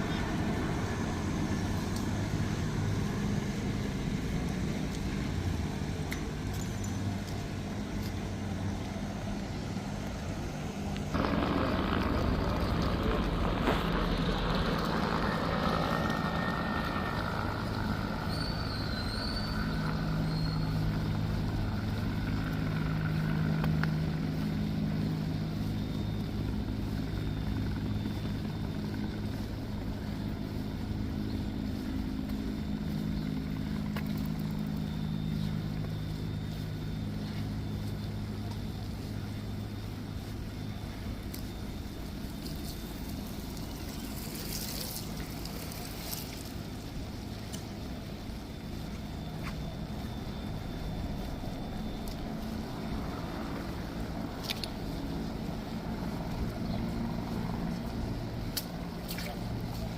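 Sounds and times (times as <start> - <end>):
large vehicle engine: 0.0 - 59.9
vehicle engines humming: 0.0 - 59.9.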